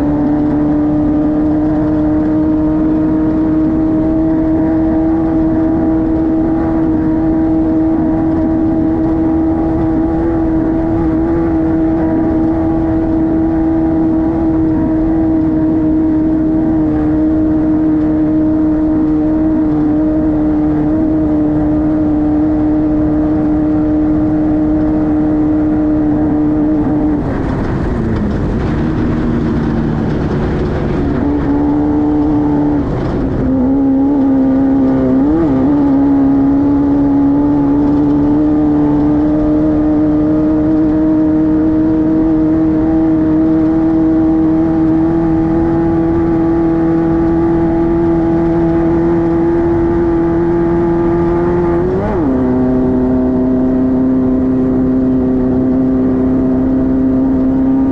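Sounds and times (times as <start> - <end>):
race car engine revving high: 0.0 - 57.9.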